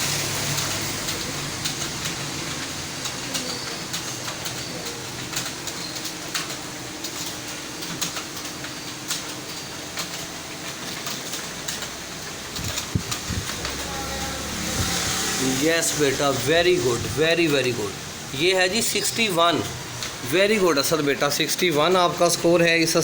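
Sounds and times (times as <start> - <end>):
fast keyboard typing: 0.0 - 23.0
room hum: 0.0 - 23.0.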